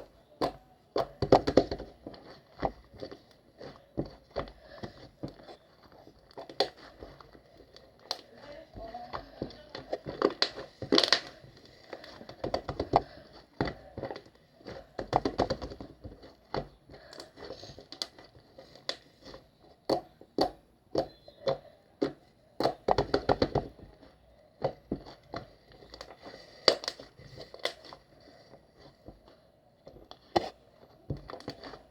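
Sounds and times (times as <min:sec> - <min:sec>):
hands handling objects: 0:00.0 - 0:31.9.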